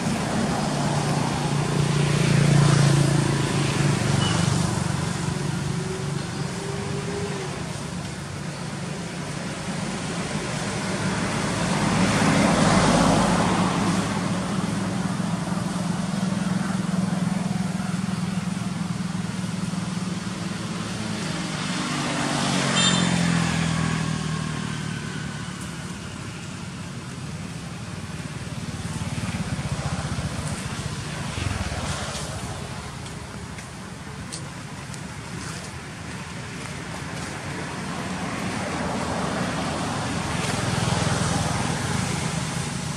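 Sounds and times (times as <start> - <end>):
road traffic engines running: 0.0 - 42.9
vehicles passing: 0.0 - 42.9.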